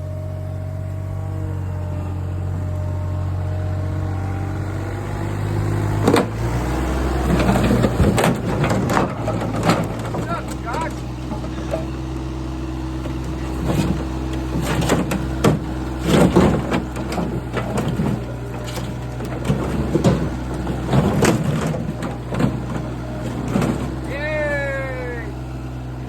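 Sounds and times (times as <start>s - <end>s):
machine engine running: 0.0s - 26.0s.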